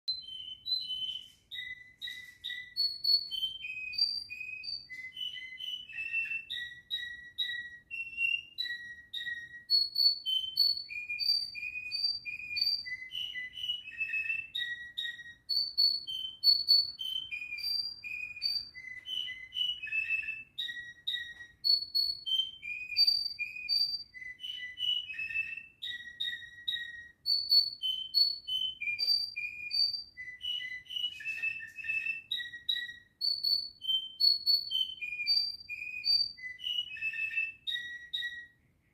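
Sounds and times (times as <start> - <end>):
canary singing: 0.1 - 38.8.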